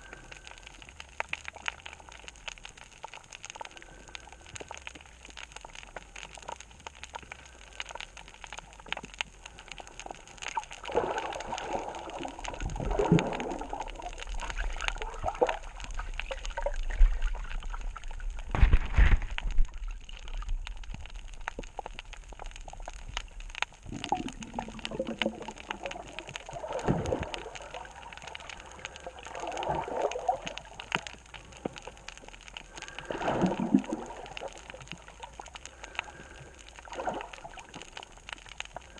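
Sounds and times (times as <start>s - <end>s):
underwater bubbling and gurgling: 0.0s - 38.9s
underwater crackling: 0.0s - 38.9s.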